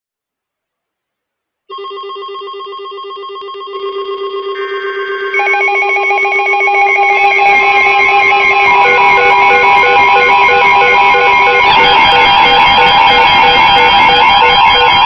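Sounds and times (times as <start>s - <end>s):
electronic beeping tones: 1.7s - 15.0s.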